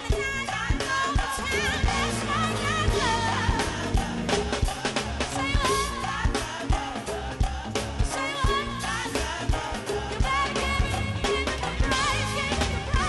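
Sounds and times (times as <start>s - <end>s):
congas: 0.0s - 13.0s
drum beat: 0.0s - 13.0s
voices singing together: 0.0s - 13.0s.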